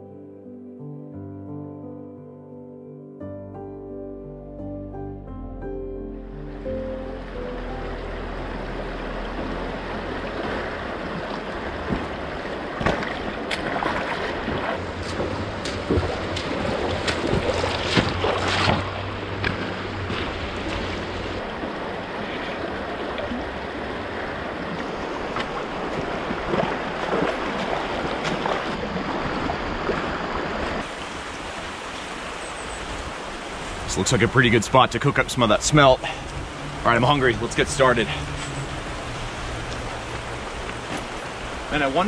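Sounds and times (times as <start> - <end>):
water splashes: 7.1 - 42.0
creek rushing over stones: 7.2 - 42.0.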